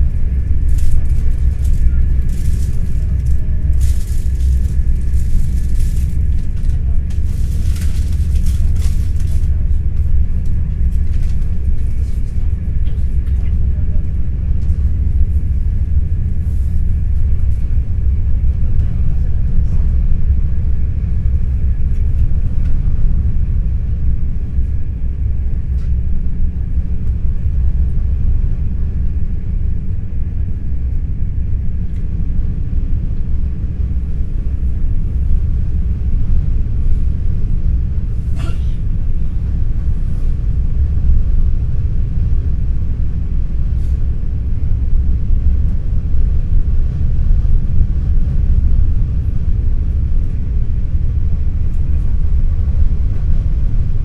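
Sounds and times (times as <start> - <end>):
train rumble from inside: 0.0 - 54.0.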